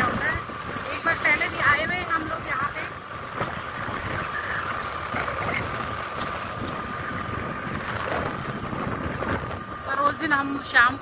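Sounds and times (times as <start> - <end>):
scooter engine running: 0.0 - 11.0
steady high whine: 0.0 - 11.0
wind noise on microphone: 0.0 - 11.0.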